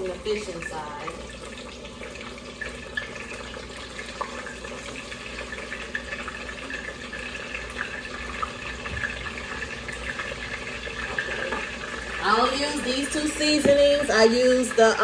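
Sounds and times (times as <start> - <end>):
fish frying in hot grease: 0.0 - 15.0.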